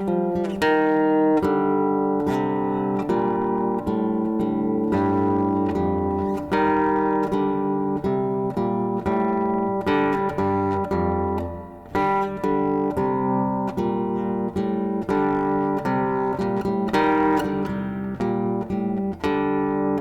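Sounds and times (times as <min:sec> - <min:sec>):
plucked guitar: 0:00.0 - 0:20.0.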